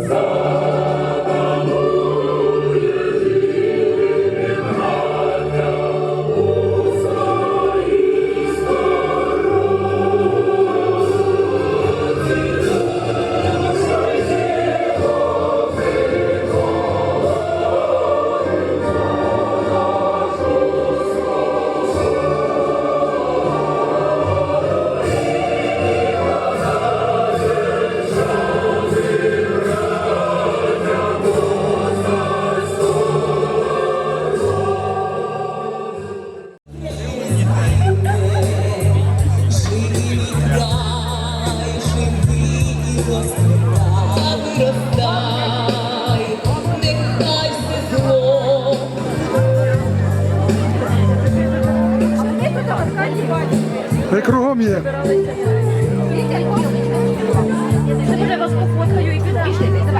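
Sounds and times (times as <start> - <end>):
backing music with bass line: 0.0 - 35.0, 36.7 - 59.9
choir singing: 0.0 - 36.6, 37.3 - 59.9.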